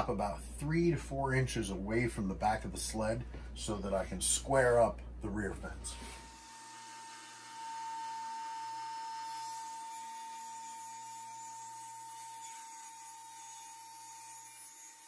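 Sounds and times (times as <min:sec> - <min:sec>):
high-pitched electrical hum: 0:00.0 - 0:15.0.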